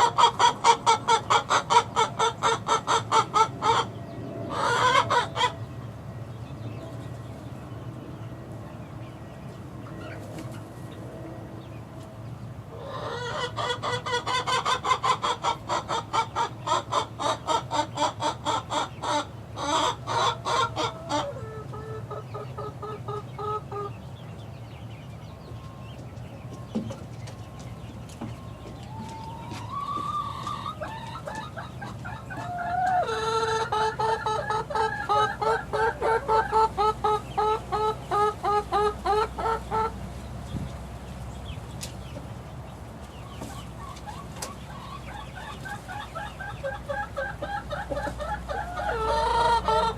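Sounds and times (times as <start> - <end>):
chicks clucking: 0.0 - 49.9
chicks drawn-out calls: 0.0 - 49.9.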